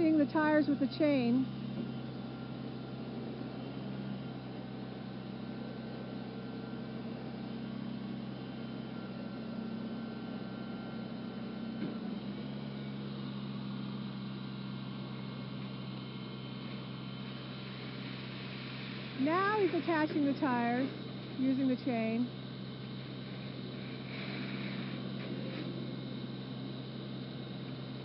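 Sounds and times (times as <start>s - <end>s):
engine humming: 0.0s - 4.9s, 5.6s - 28.0s.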